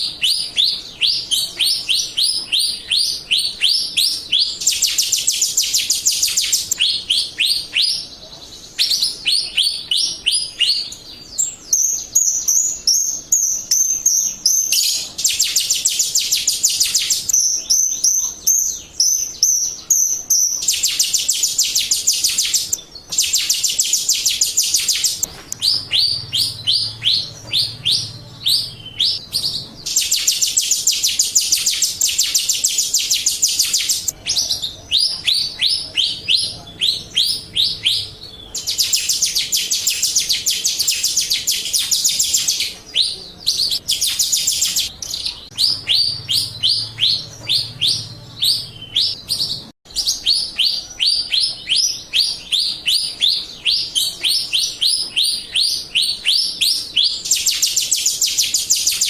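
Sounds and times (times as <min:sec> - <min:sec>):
starling chirping and chattering: 0:00.0 - 0:59.0.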